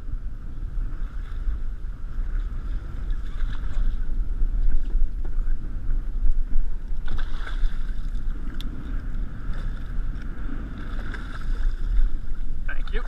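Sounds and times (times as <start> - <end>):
boat rumble on choppy water: 0.0 - 13.0
wind on microphone: 0.0 - 13.0.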